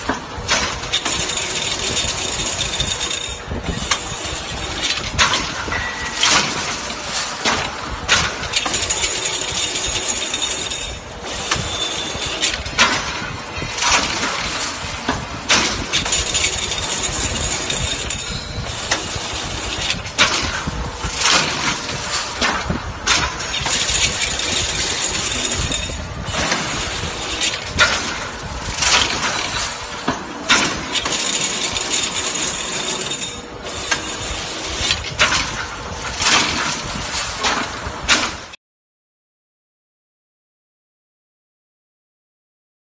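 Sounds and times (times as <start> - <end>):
mechanical clatter: 0.0 - 38.6
sharp machine clanks: 0.0 - 38.6.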